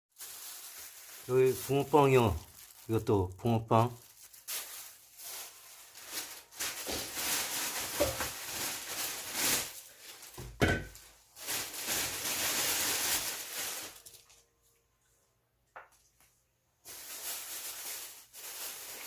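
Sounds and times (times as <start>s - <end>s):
paper bags crinkling: 0.1s - 14.5s, 16.8s - 19.0s.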